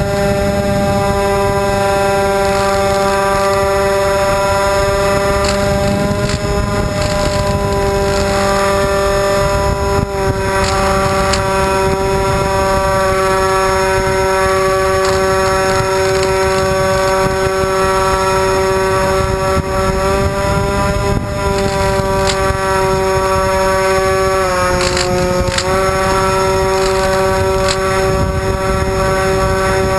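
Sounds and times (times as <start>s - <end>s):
wind rush on microphone: 0.0s - 29.9s
electric motors whining: 1.2s - 18.2s, 20.3s - 28.5s.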